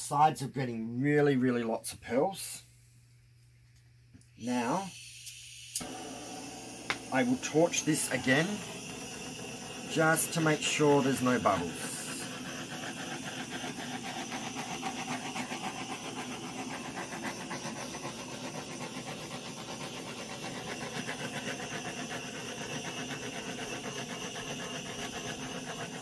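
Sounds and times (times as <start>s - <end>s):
torch flame hissing: 4.4s - 26.0s.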